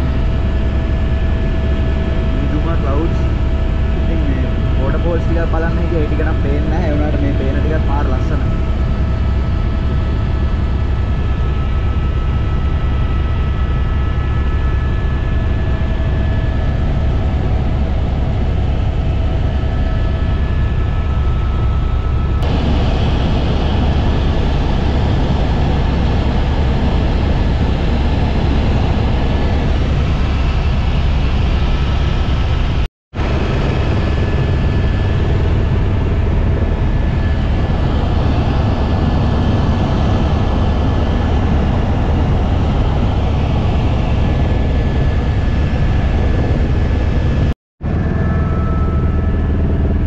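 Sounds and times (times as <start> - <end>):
helicopter rotor and turbine drone: 0.0 - 50.0.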